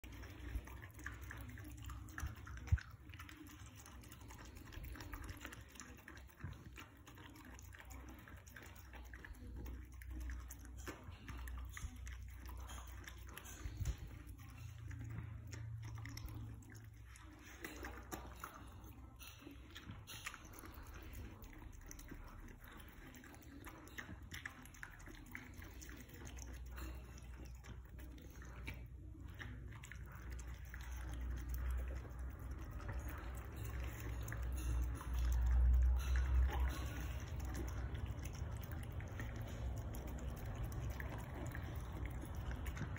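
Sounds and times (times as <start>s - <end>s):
dog chewing food: 0.0s - 42.9s.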